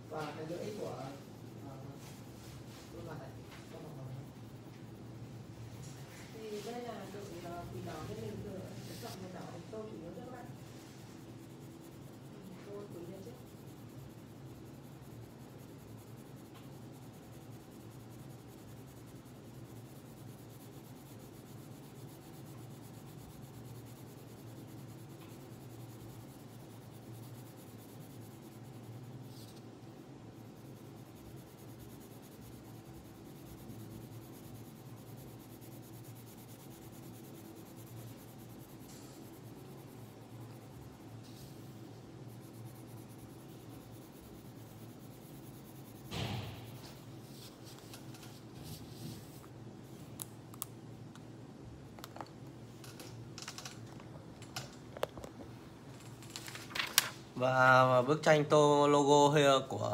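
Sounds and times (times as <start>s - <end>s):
pencil scratching on paper: 0.1s - 49.5s.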